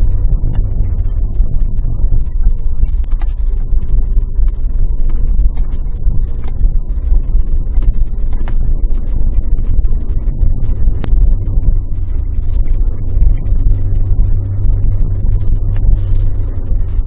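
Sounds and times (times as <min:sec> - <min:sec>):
engine and tyre rumble: 0:00.0 - 0:17.0
gravel clicking and rattling: 0:00.0 - 0:17.0.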